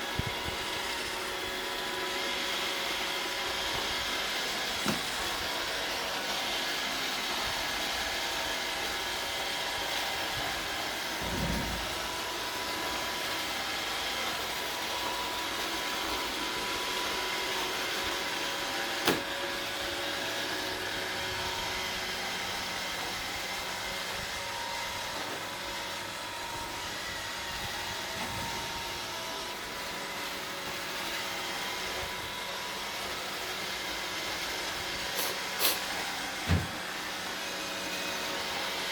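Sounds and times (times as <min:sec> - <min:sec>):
robot vacuum humming: 0:00.0 - 0:38.9.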